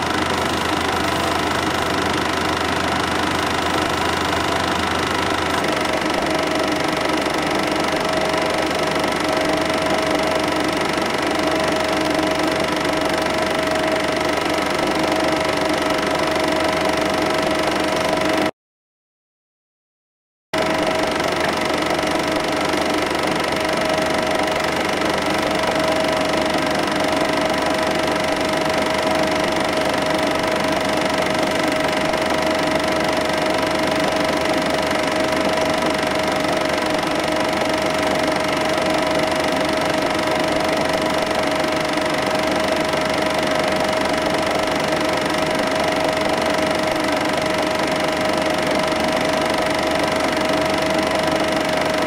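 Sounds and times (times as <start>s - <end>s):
film projector whirring: 0.0s - 18.5s, 20.6s - 52.0s.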